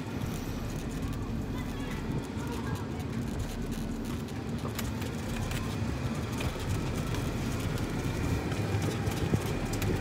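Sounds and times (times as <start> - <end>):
golf cart rumbling: 0.0 - 10.0.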